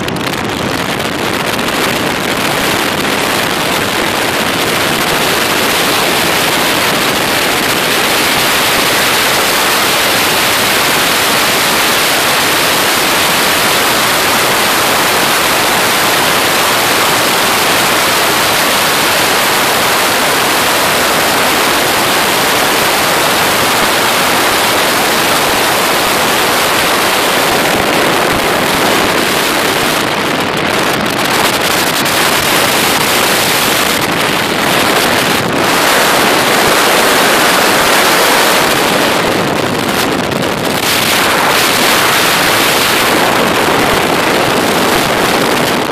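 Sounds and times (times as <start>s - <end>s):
tyre and road noise: 0.0s - 45.9s
wind rushing against microphone: 0.0s - 45.9s.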